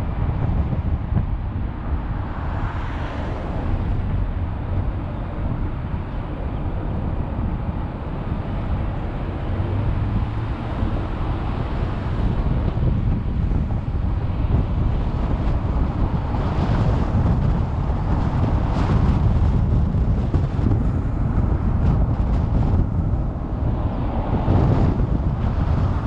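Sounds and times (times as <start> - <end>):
tyre and wind noise in car: 0.0 - 26.0.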